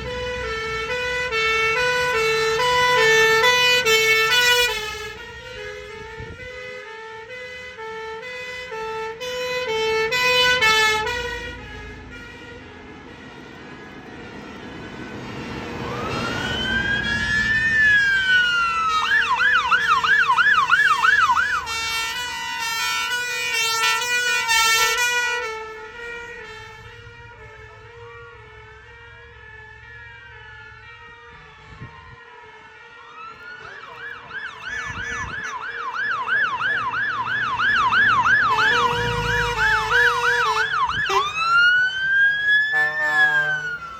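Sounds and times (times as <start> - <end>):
two-tone siren: 0.0 - 43.9
wail siren: 0.0 - 43.9
yelp siren: 0.0 - 43.9.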